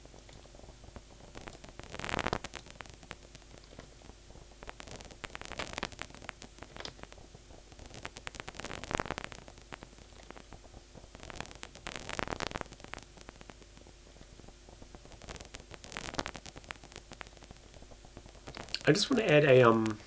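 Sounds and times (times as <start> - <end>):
steady hiss: 0.0 - 20.0
synthesized paper crumpling crackle: 0.0 - 20.0.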